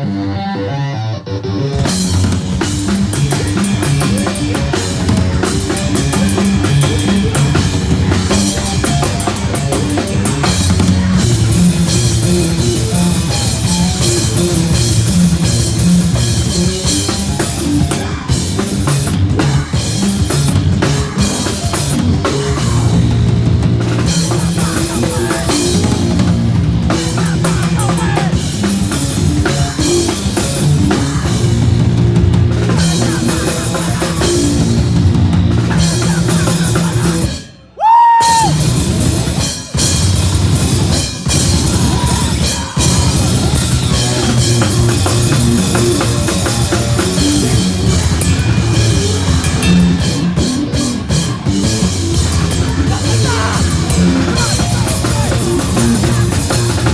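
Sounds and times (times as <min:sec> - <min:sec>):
rock music: 0:00.0 - 0:56.9.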